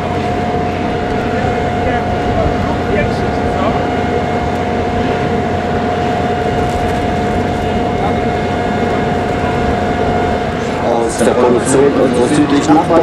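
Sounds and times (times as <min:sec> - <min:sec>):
aircraft engine whine: 0:00.0 - 0:13.0.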